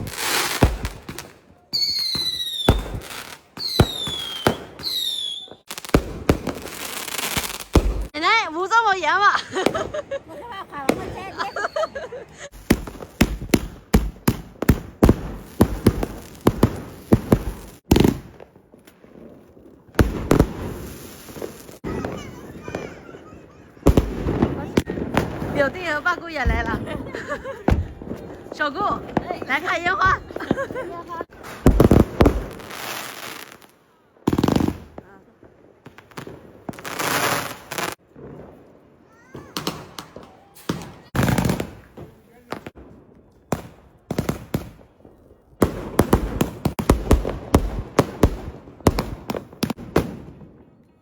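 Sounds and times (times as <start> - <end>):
fireworks bangs: 0.0 - 50.8.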